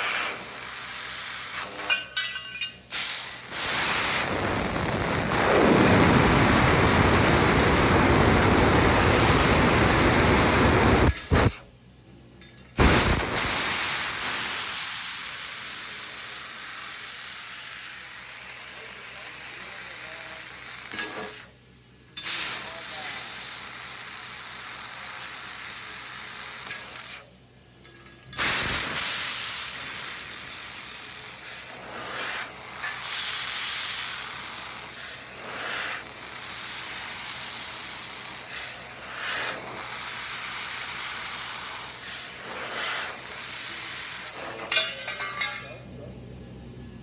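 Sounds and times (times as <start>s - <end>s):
air hissing from cutting head: 2.9s - 11.6s, 12.8s - 21.5s, 22.2s - 27.3s, 28.4s - 44.8s.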